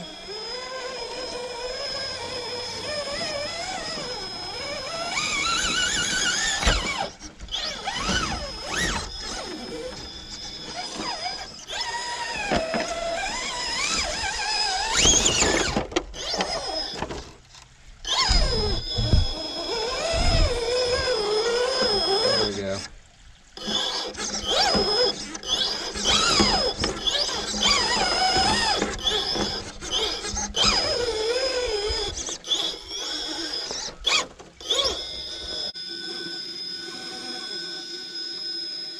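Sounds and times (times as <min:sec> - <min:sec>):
electric motor whining: 0:00.0 - 0:23.0, 0:23.6 - 0:38.9.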